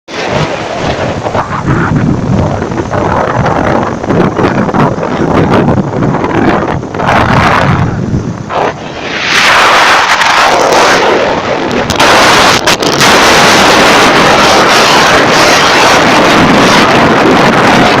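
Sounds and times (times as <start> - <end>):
strong wind buffeting microphone: 0.1 - 18.0.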